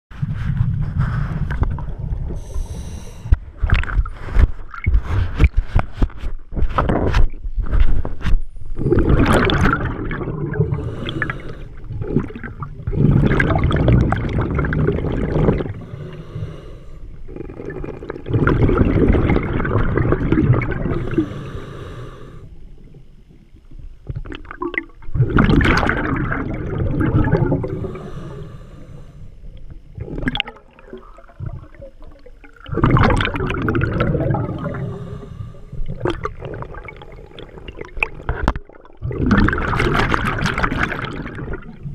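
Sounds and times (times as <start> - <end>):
exhaled bubbles gurgling underwater: 0.2 - 5.8, 6.5 - 41.9.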